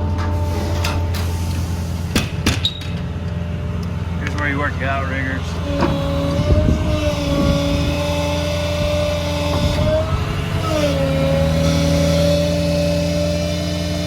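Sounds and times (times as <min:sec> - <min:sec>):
hydraulic system whine: 0:00.0 - 0:14.0
truck engine running: 0:00.0 - 0:14.0.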